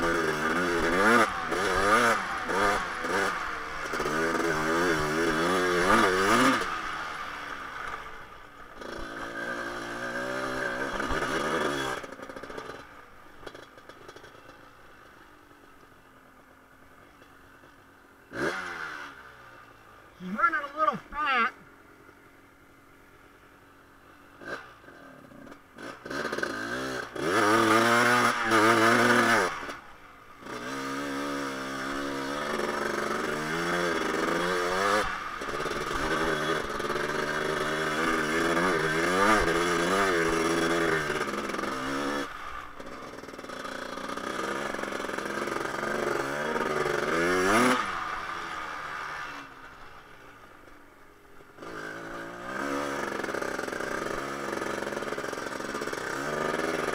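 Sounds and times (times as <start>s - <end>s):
two-stroke engine revving: 0.0s - 14.7s, 18.3s - 19.6s, 24.3s - 50.8s, 51.4s - 56.9s.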